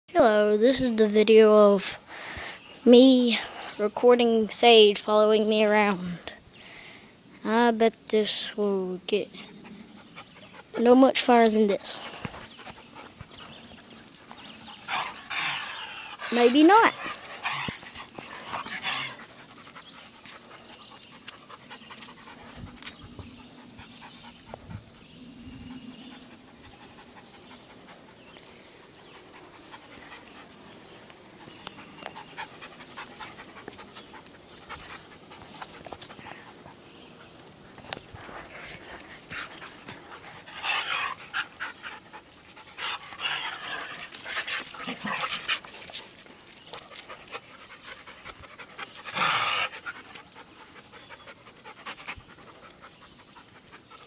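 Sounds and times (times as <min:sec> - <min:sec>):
large dog panting: 0:09.2 - 0:54.0.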